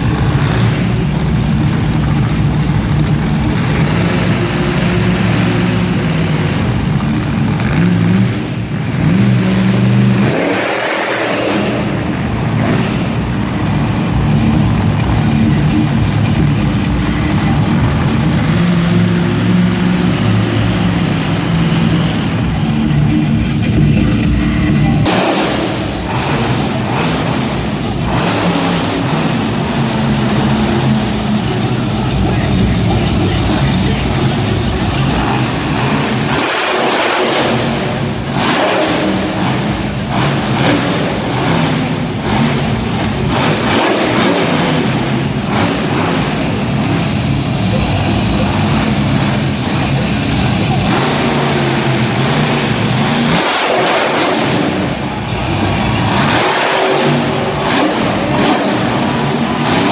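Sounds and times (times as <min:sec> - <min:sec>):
monster truck engine running: 0:00.0 - 0:59.9.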